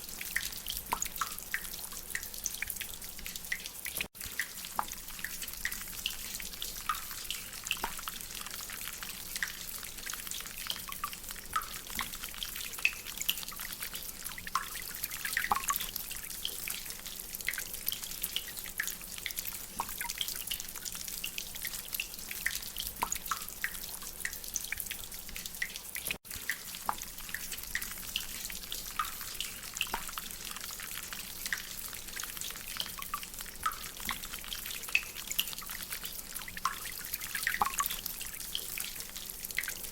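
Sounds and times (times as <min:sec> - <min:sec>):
water dripping and splashing: 0:00.0 - 0:39.9.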